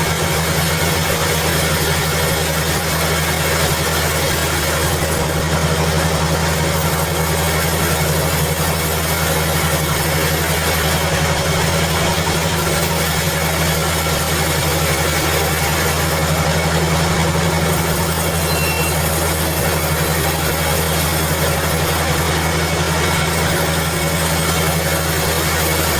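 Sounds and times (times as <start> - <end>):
sawmill machinery humming: 0.0 - 25.9.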